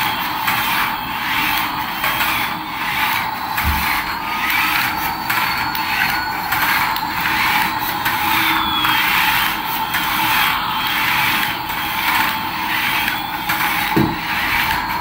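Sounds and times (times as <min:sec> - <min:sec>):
toy motor and gears whirring: 0:00.0 - 0:15.0.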